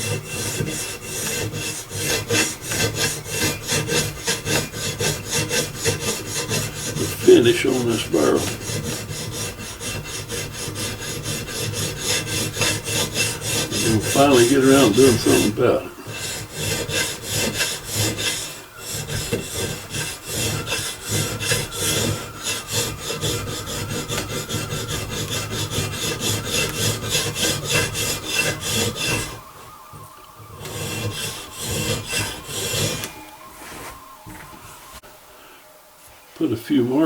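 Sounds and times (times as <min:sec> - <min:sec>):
file rasping on steel: 0:00.0 - 0:33.2.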